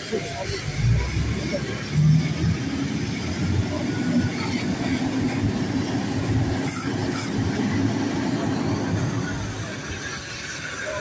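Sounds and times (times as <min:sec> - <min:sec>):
forklift rumbling: 0:00.0 - 0:11.0.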